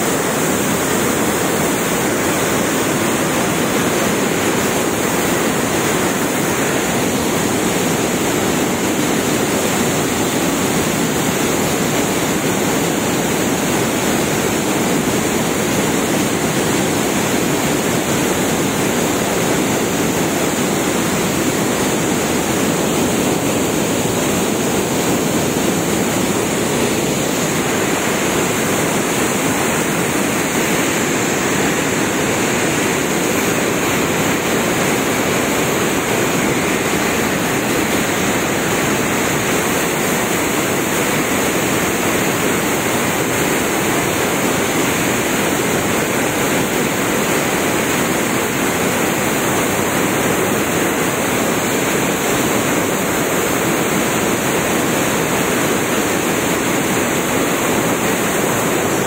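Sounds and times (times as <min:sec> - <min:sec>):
rushing floodwater: 0:00.0 - 0:59.0.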